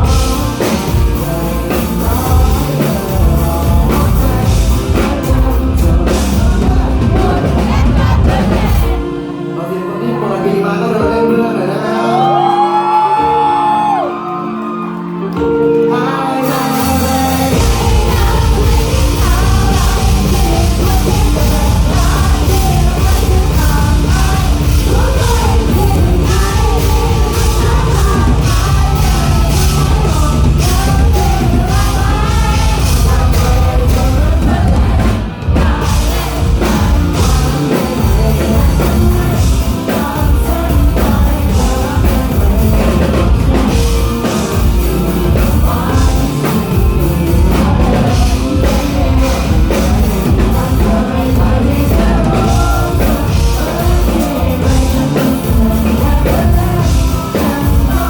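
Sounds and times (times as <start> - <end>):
drums: 0.0 - 9.5, 12.2 - 58.0
live rock band playing: 0.0 - 58.0
person singing: 0.0 - 58.0.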